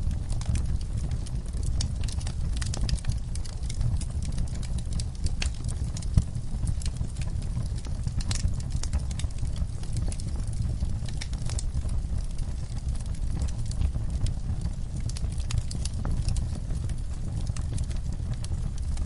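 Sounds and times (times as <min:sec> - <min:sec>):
low rumble of flames: 0:00.0 - 0:19.0
wood fire popping and snapping: 0:00.0 - 0:19.0.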